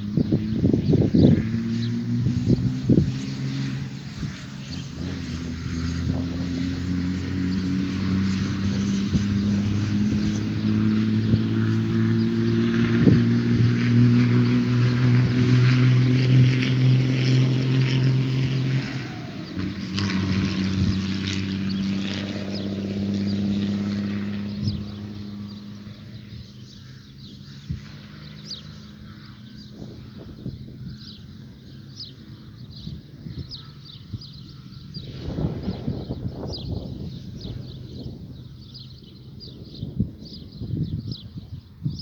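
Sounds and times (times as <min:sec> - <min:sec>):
vehicle engine humming: 0:00.0 - 0:42.0.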